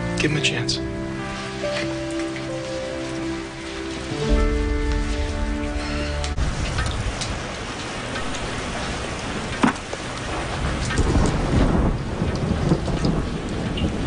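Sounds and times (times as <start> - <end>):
heavy rain: 0.0 - 14.0
thunder rumbling: 0.8 - 14.0.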